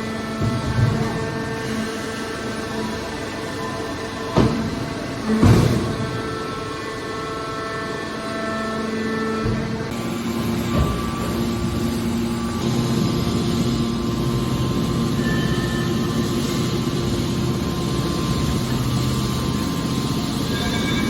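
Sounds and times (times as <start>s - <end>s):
hydraulic machine hum: 0.0s - 21.0s.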